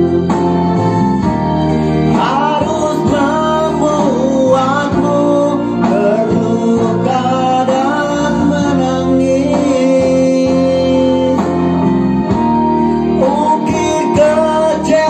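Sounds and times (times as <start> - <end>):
song with wavering lead melody: 0.0 - 15.0.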